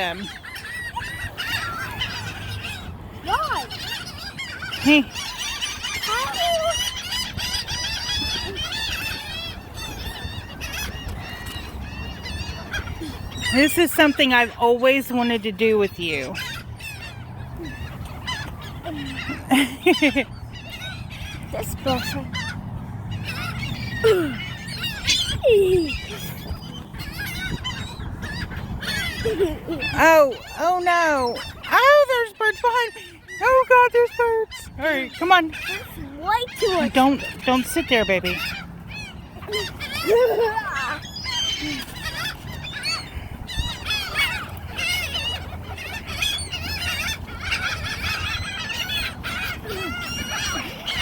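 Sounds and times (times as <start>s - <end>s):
birds chirping and chattering: 0.0s - 51.0s.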